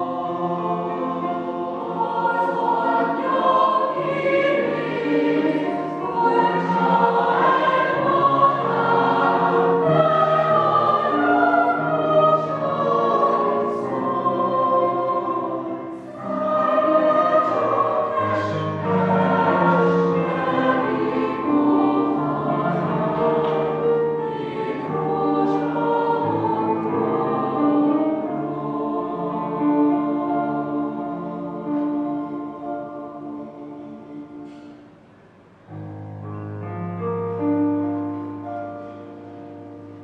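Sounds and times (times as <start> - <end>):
mixed choir singing held chords: 0.0 - 40.0.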